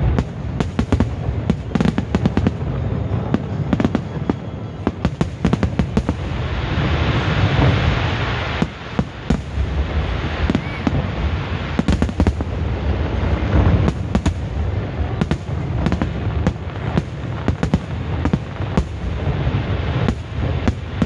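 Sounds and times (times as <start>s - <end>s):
firework cracks and pops: 0.0s - 21.0s
rumble of bursting fireworks: 0.0s - 21.0s.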